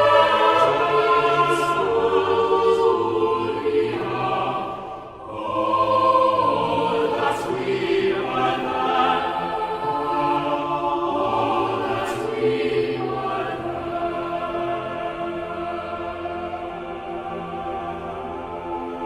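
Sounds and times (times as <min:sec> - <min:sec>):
choir singing long chords: 0:00.0 - 0:19.0.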